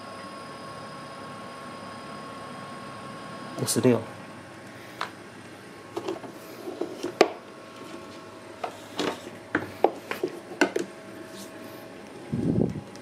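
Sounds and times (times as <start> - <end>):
fridge compressor hum: 0.0 - 13.0.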